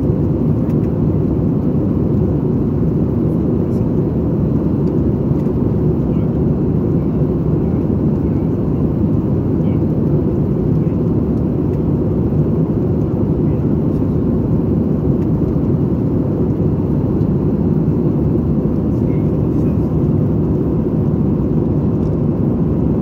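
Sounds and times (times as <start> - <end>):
airplane cabin rumble: 0.0 - 23.0.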